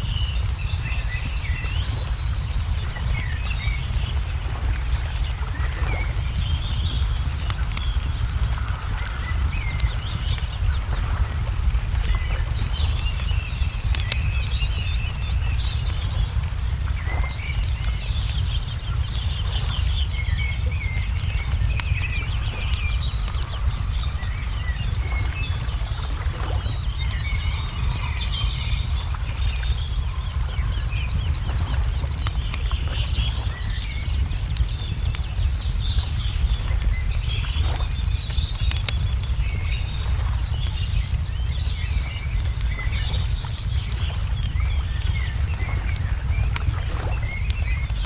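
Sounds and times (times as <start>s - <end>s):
small birds chirping: 0.0s - 48.0s
wood fire crackling: 0.0s - 48.0s.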